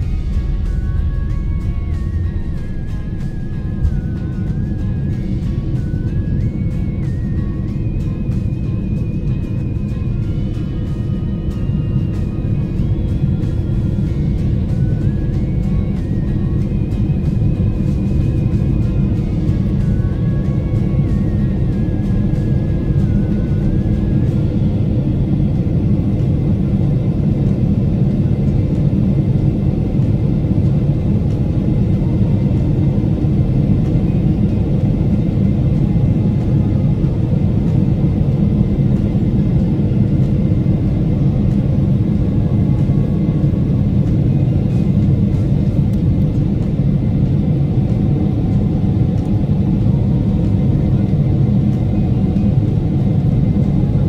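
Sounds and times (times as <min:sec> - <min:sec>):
jet engine cabin rumble: 0:00.0 - 0:54.0.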